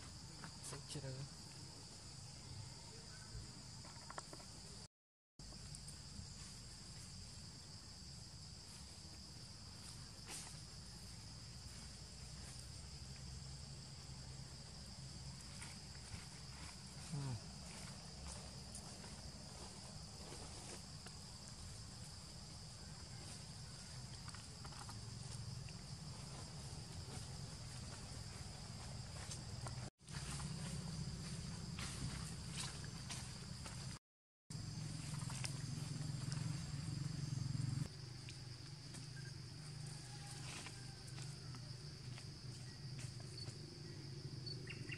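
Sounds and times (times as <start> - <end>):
crickets droning: 0.0 - 44.9.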